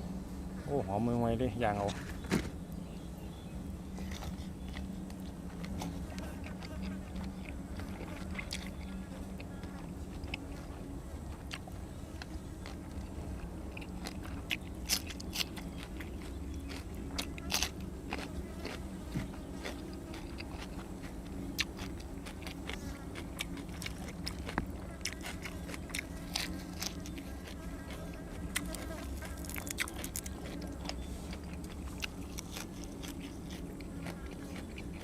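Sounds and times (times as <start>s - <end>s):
steady low hum: 0.0s - 35.0s
person chewing with crunches: 3.9s - 35.0s.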